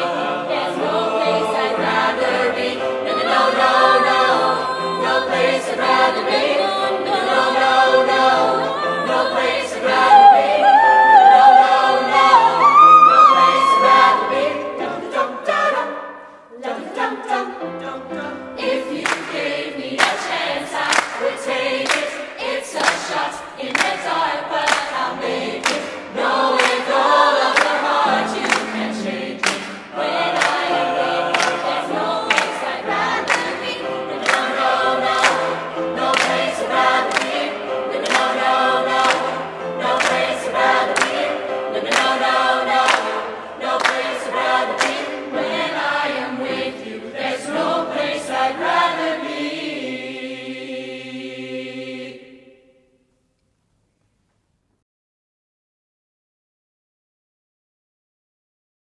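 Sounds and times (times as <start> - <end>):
youth choir singing: 0.0 - 53.0.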